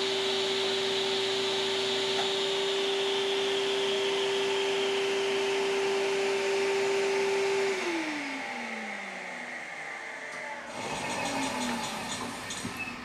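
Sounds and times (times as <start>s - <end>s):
table saw blade whining: 0.0s - 13.0s.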